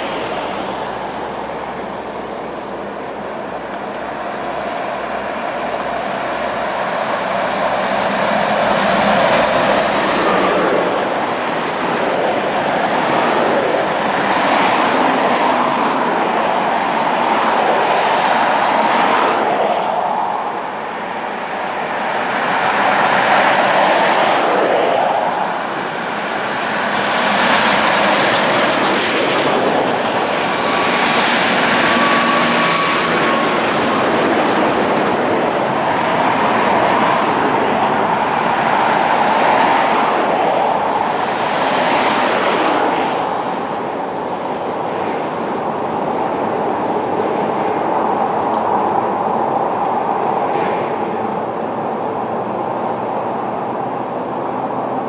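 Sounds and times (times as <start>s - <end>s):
trucks and cars passing: 0.0s - 55.0s.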